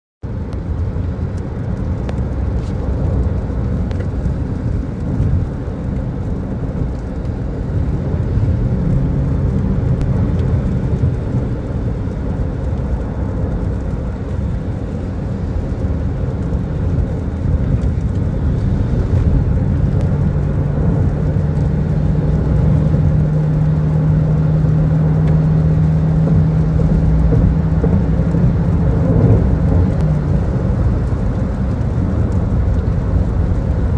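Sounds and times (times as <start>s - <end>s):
car road rumble on wet road: 0.2s - 33.9s
engine drone: 0.2s - 33.9s.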